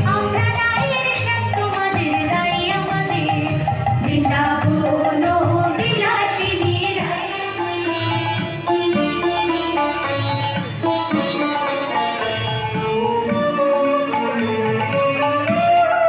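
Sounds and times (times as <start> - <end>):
folk melody over drum beat: 0.0 - 16.0.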